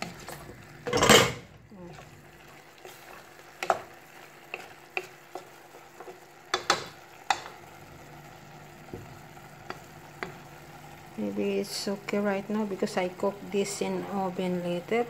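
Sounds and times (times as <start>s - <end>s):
faint sizzle: 0.0s - 15.0s.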